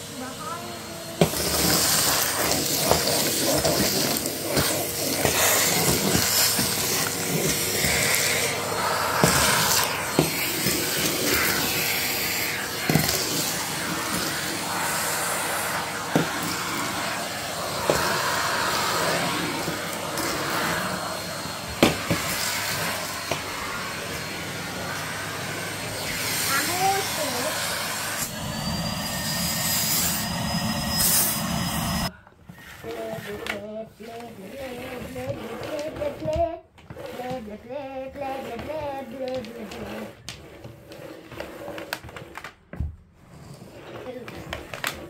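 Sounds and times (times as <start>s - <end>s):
vacuum cleaner running: 0.0s - 37.4s, 38.1s - 45.0s.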